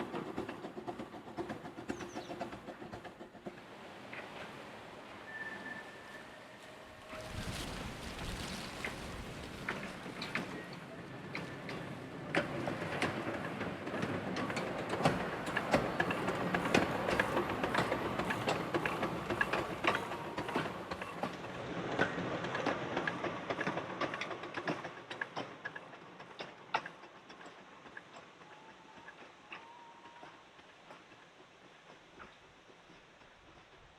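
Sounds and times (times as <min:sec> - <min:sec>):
train wheels clicking over rail joints: 0:00.0 - 0:05.6, 0:06.6 - 0:33.9.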